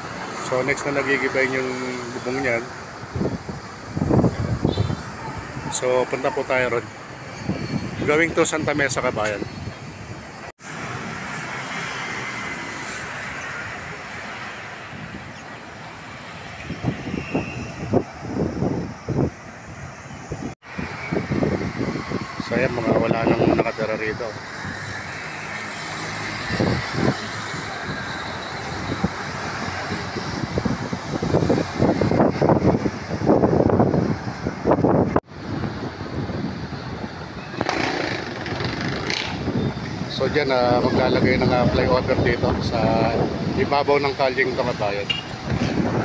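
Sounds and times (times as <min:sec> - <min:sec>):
street traffic noise: 0:00.0 - 0:46.0
wind gusting on microphone: 0:00.0 - 0:46.0.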